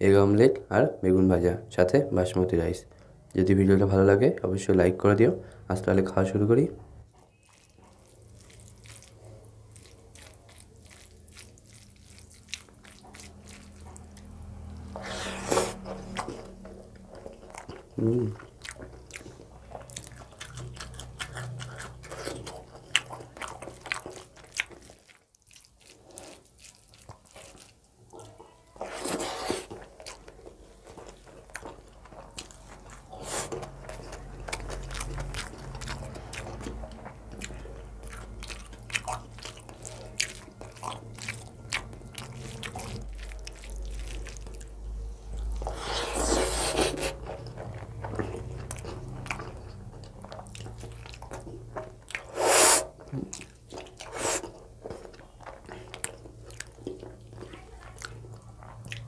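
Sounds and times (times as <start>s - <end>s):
wet chewing and mouth clicks: 7.1s - 59.0s.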